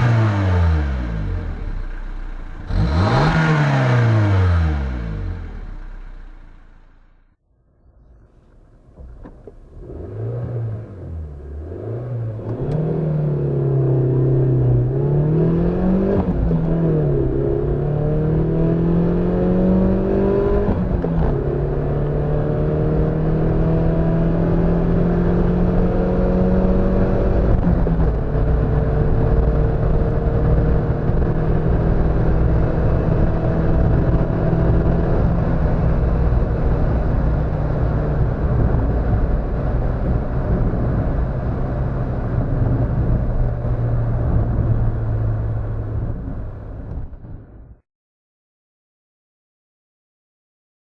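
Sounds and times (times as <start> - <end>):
car engine accelerating: 0.0 - 47.2.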